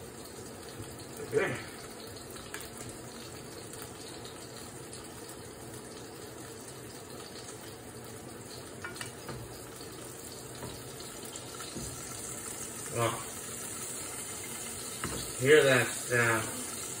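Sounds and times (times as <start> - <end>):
burger patty sizzling in a pan: 0.0 - 17.0.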